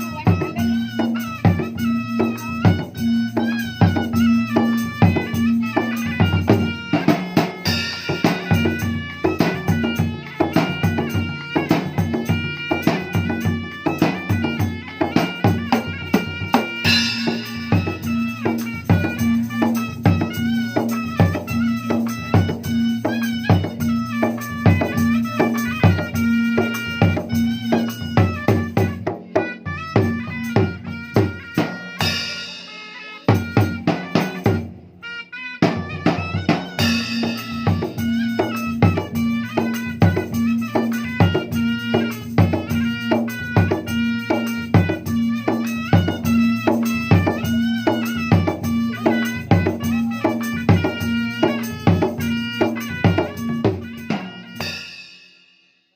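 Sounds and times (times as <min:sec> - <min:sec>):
stepping melody line: 0:00.0 - 0:55.2
drum strikes in quick rhythm: 0:00.0 - 0:55.6.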